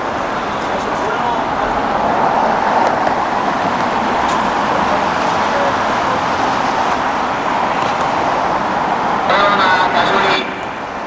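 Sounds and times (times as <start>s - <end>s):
cars passing close by: 0.0s - 11.0s.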